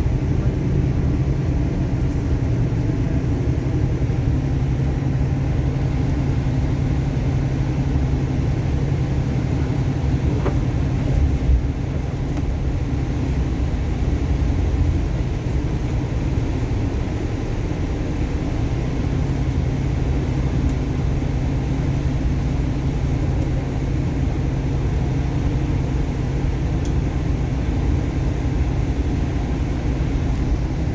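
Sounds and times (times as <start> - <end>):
low engine rumble: 0.0 - 30.9.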